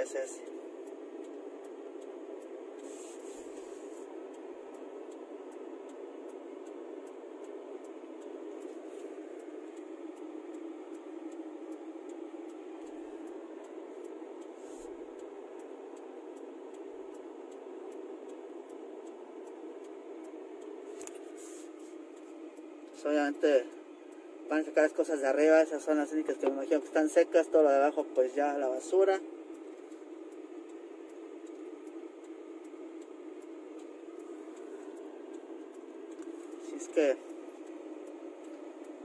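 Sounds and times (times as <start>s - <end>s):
road and engine noise in car: 0.0s - 39.0s.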